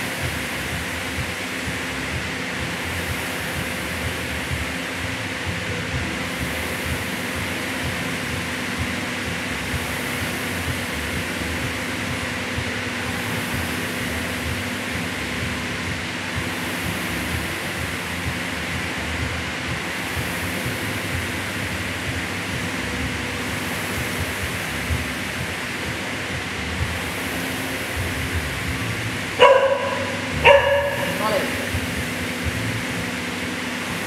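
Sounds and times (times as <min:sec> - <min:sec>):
rowing machine flywheel whirring: 0:00.0 - 0:34.0.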